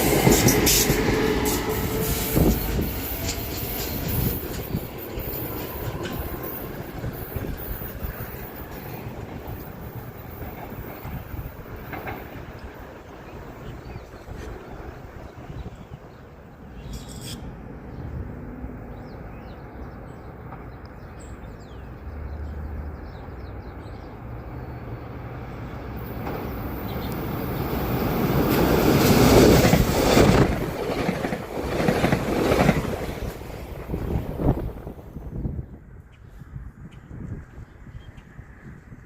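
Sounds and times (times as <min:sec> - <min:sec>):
train passing rumble: 0:00.0 - 0:39.0.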